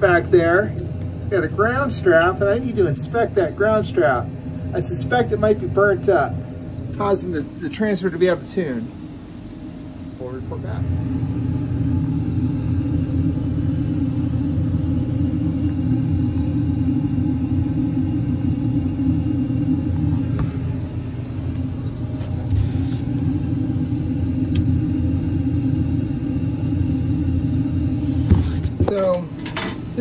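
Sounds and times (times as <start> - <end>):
low machinery rumble and hum: 0.0 - 30.0.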